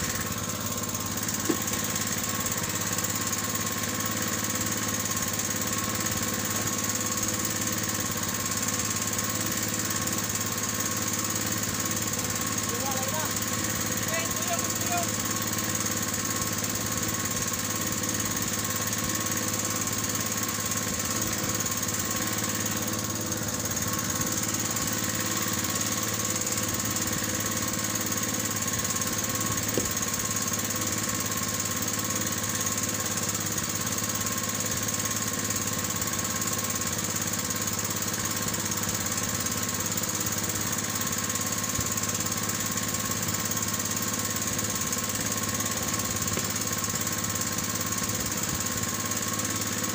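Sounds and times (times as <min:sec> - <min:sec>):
small boat engine running: 0:00.0 - 0:49.9.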